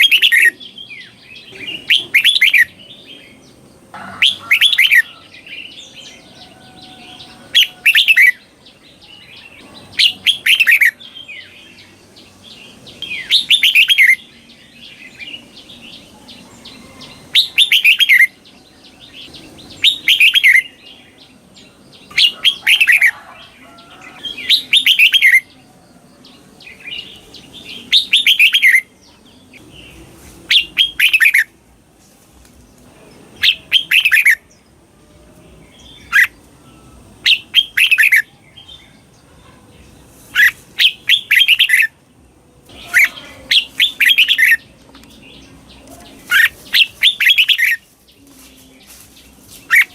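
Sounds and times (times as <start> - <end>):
bird singing whistled notes: 0.0 - 3.6, 4.2 - 23.2, 24.1 - 31.5, 33.4 - 34.6, 35.6 - 39.1, 40.3 - 42.0, 42.7 - 49.9.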